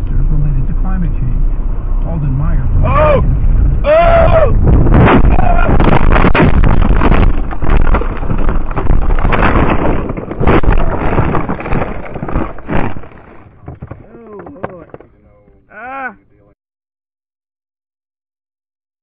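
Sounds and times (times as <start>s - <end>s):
car crash: 0.0s - 15.6s.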